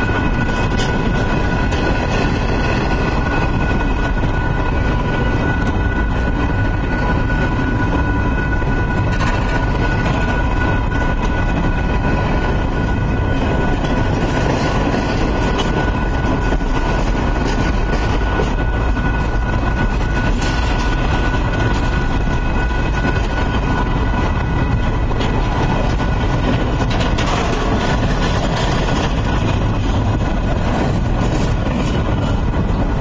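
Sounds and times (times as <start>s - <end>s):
steel wheels rumbling on rail: 0.0s - 33.0s.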